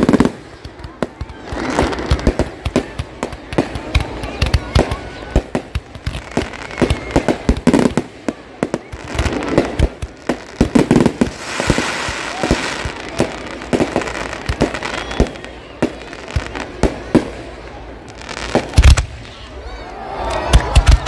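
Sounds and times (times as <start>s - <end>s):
fireworks hissing: 0.0s - 19.4s
fireworks bangs and booms: 0.0s - 19.6s, 20.4s - 21.0s.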